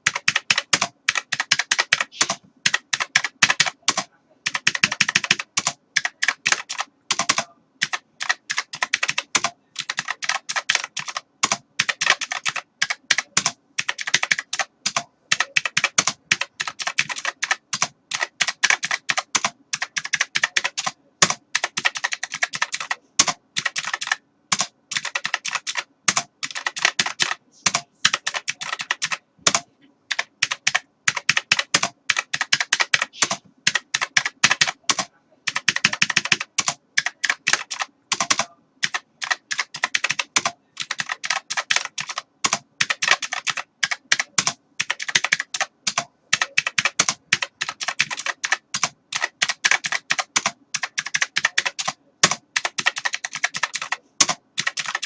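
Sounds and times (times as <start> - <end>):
typing on a keyboard: 0.0 - 55.0.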